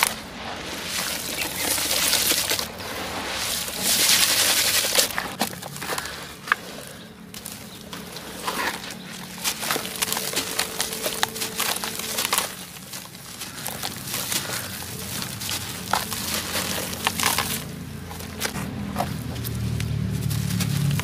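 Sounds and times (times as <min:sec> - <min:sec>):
dry earth crunching under hand: 0:00.0 - 0:21.0
low steady hum: 0:00.0 - 0:21.0.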